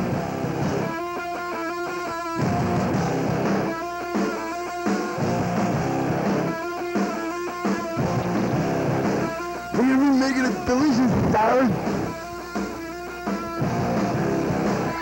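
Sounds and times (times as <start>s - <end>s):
guitar-led rock music: 0.0s - 15.0s.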